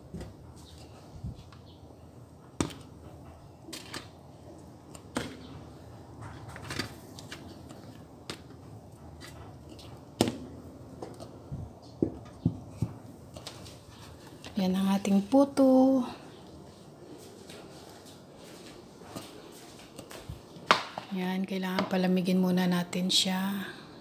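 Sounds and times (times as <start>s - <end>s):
low steady background noise: 0.0s - 24.0s.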